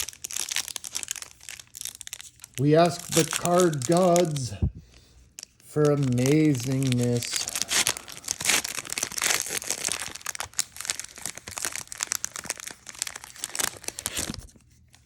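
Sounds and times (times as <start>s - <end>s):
foil wrapper torn and crinkled: 0.0s - 4.5s, 5.3s - 15.0s.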